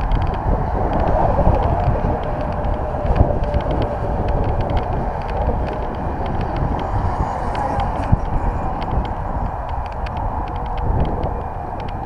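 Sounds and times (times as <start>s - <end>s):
bicycle clicks and rattles: 0.0s - 12.0s
steady low rumble: 0.0s - 12.0s
wind buffeting microphone: 0.0s - 12.0s.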